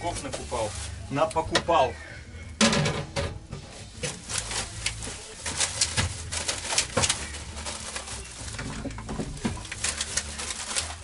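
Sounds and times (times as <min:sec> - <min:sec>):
plastic bags rustling: 0:00.0 - 0:02.0, 0:03.6 - 0:11.0.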